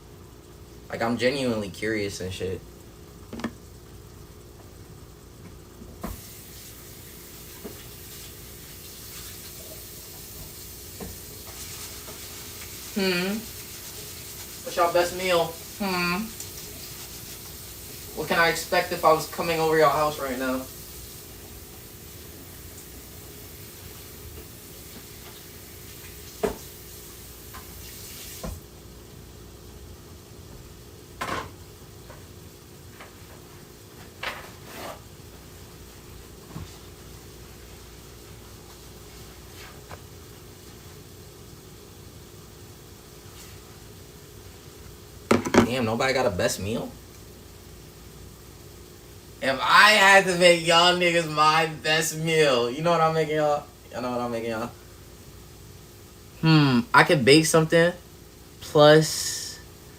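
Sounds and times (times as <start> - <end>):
noodles sizzling in a frying pan: 0.0 - 59.9.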